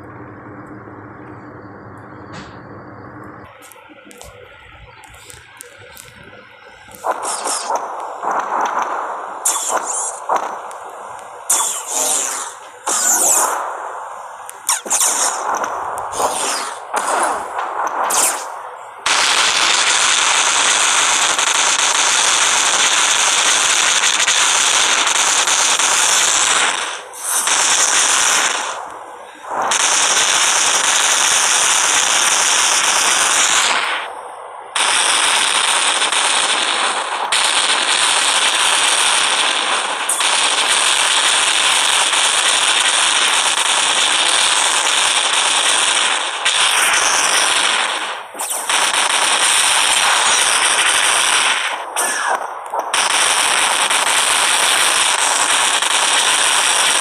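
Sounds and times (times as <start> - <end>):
loud dense crackling: 0.0 - 57.0.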